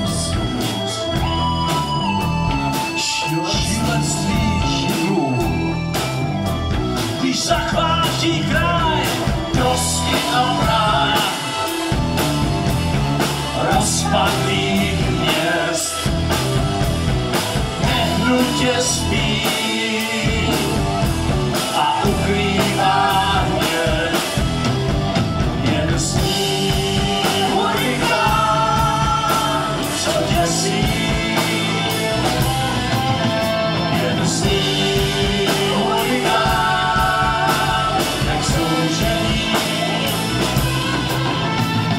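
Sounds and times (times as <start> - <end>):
rock music with singing: 0.0 - 41.9.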